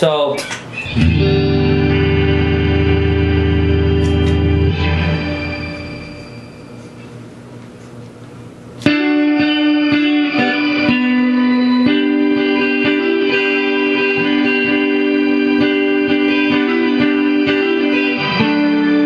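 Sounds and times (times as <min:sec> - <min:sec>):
electric guitar with effects: 0:00.4 - 0:07.3, 0:08.8 - 0:19.0.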